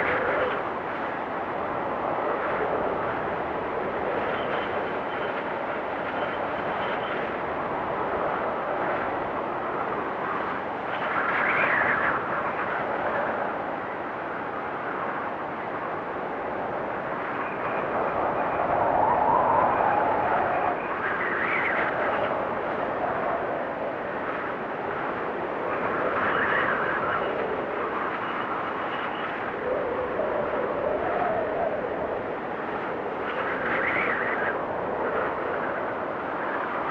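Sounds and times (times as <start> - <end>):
blizzard wind blowing: 0.0 - 36.9
faint high wind whistle: 0.0 - 36.9.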